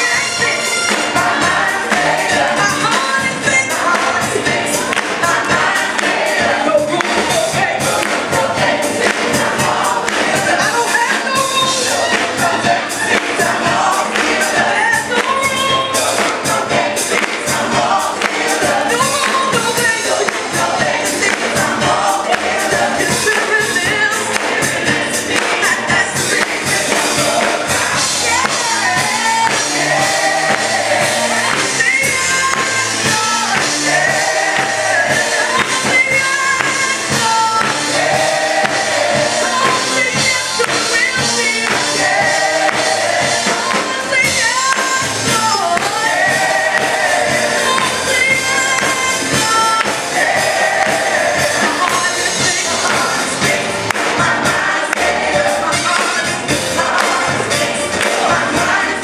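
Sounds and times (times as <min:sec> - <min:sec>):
full band playing: 0:00.0 - 0:59.0
praise team singing: 0:00.0 - 0:59.0.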